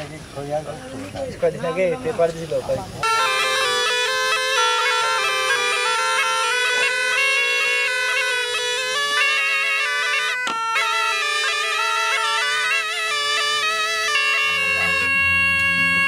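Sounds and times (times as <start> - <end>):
reed pipe melody over drone: 3.0 - 16.0.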